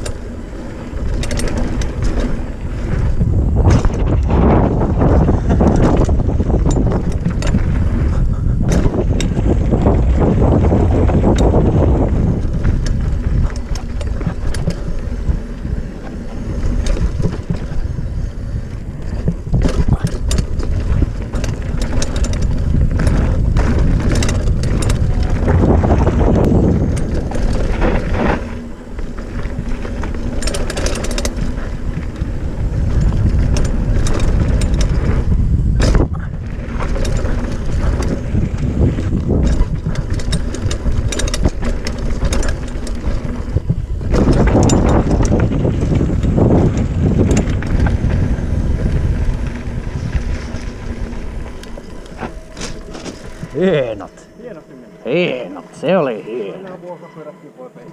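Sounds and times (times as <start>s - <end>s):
bike rattling over bumps: 0.0s - 55.6s
wind buffeting camera: 0.0s - 56.0s.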